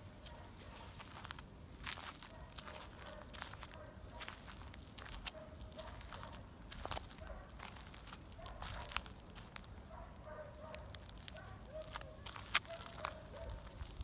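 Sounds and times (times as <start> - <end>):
sharp clicks and crunches: 0.2 - 9.8, 10.7 - 14.0.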